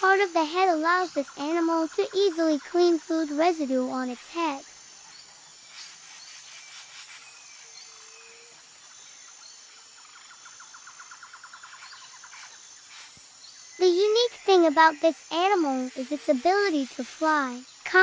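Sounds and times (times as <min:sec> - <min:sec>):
rapid bird trill: 0:00.0 - 0:08.4, 0:09.3 - 0:18.0
low hiss: 0:01.6 - 0:18.0.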